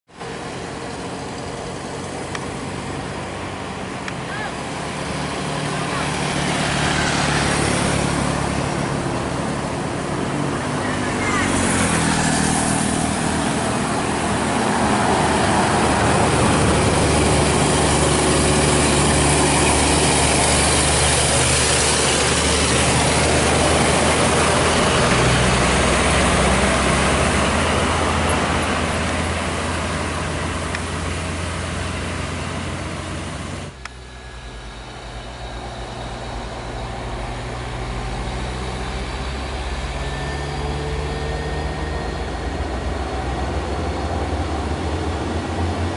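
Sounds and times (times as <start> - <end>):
road and tyre noise: 0.0 - 45.9
diesel truck engines droning: 0.1 - 45.9.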